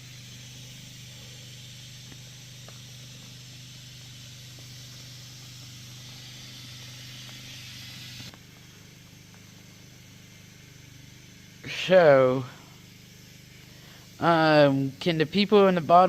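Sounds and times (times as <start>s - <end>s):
gas hissing from a hose: 0.0s - 16.0s
low steady hum: 0.0s - 16.0s.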